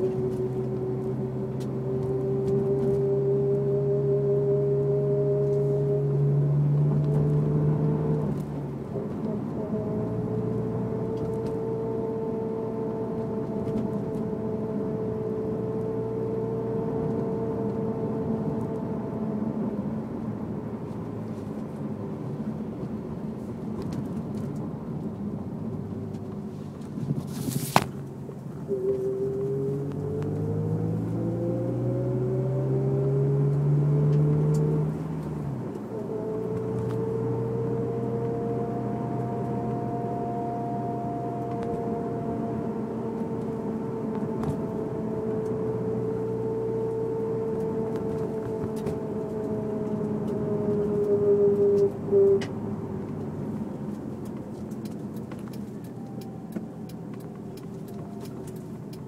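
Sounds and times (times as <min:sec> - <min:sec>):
car engine revving: 0:00.0 - 0:59.0
drivetrain whine: 0:00.0 - 0:59.0.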